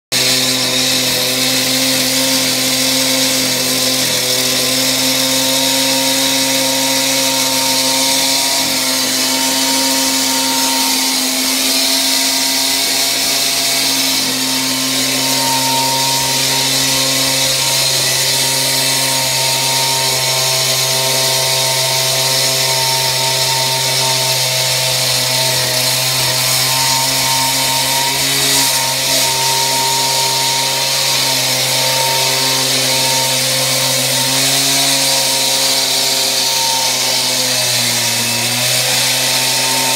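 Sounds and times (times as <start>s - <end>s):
power tools running: 0.1s - 39.9s.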